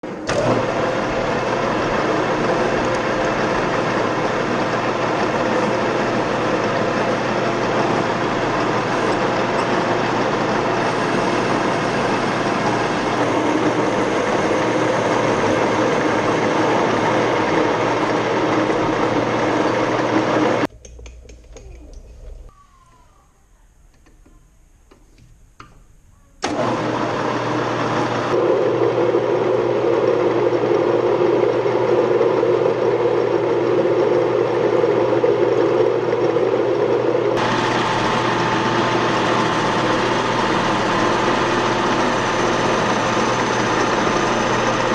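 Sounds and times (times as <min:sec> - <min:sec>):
metal lathe running: 0:00.0 - 0:20.7, 0:26.4 - 0:44.9.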